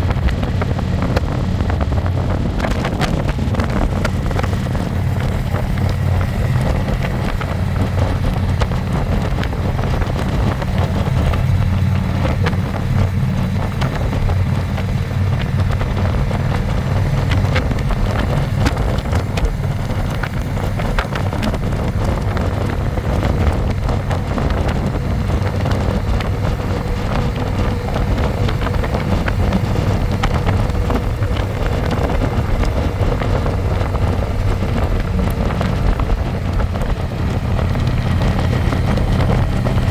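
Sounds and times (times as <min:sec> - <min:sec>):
motorcycle engine running steadily: 0:00.0 - 0:39.9
wind buffeting microphone: 0:00.0 - 0:39.9.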